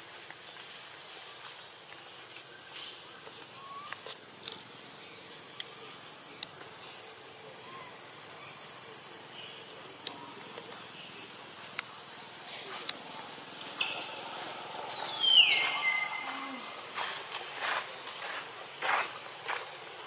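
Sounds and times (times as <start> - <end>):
forest ambience hiss: 0.0 - 20.0.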